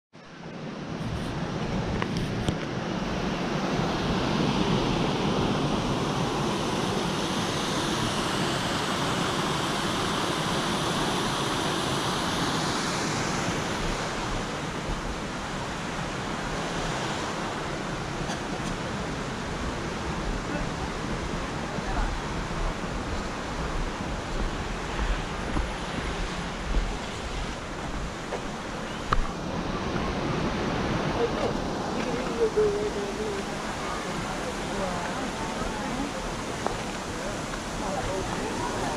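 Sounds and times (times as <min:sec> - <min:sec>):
waterfall and creek rushing: 0:00.4 - 0:38.9
wind on microphone: 0:00.7 - 0:38.9.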